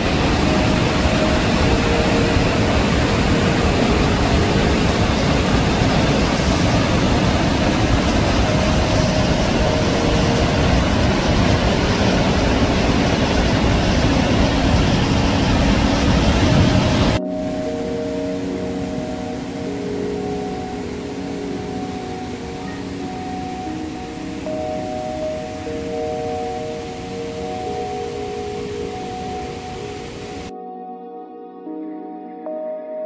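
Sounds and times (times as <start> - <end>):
waterfall roaring: 0.0 - 30.5.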